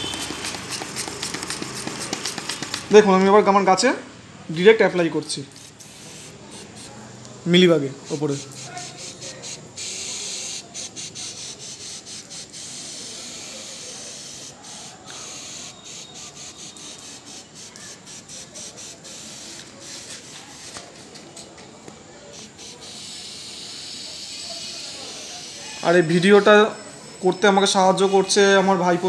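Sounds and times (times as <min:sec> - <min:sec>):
spray bottle hissing: 0:00.0 - 0:03.1, 0:05.4 - 0:21.6, 0:22.3 - 0:29.0.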